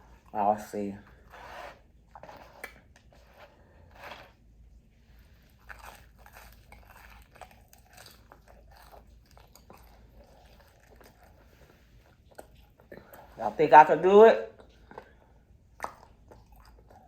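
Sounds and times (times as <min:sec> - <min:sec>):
person chewing crispy food: 0:01.1 - 0:04.4, 0:05.1 - 0:13.4, 0:14.6 - 0:17.0.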